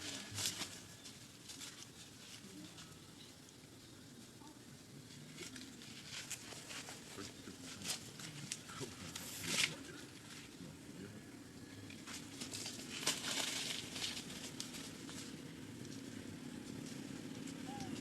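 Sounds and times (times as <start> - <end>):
rustling and crinkling: 0.0 - 4.4, 5.1 - 10.7, 11.8 - 18.0.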